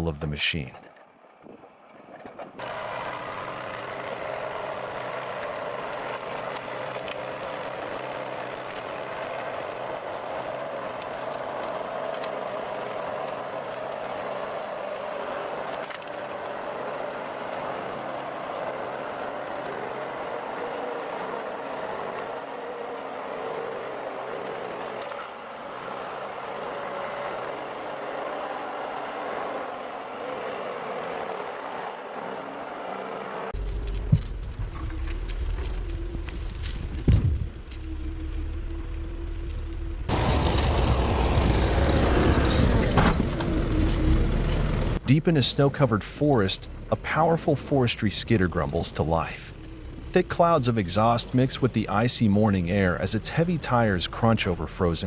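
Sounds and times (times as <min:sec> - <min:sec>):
heavy machine engine running: 0:02.6 - 0:55.0
high whine: 0:02.6 - 0:55.0.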